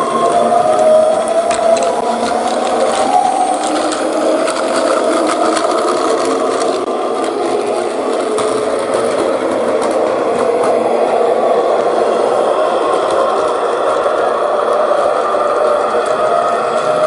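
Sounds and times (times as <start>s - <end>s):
wheels clicking over track: 0.0s - 17.0s
toy train motor whirring: 0.1s - 10.9s, 11.8s - 17.0s.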